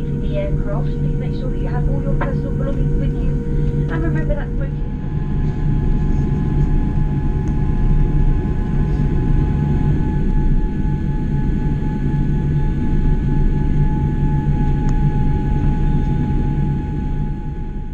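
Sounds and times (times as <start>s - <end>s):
airliner cabin rumble: 0.0s - 17.9s
jet engine whine: 0.0s - 17.9s.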